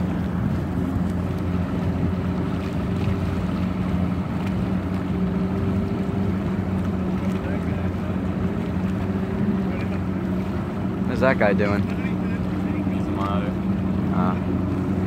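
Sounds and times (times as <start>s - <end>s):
outboard motor humming: 0.0s - 15.0s
water noise: 0.0s - 15.0s
wind: 0.0s - 15.0s.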